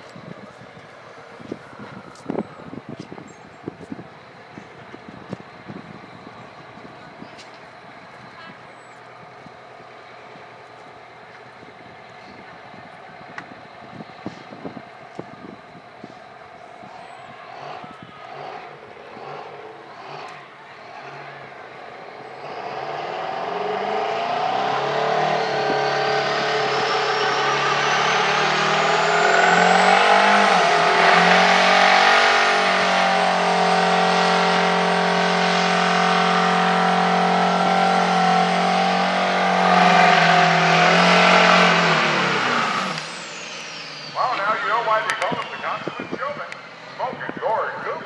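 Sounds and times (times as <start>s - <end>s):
diesel truck engine revving: 0.0s - 48.0s.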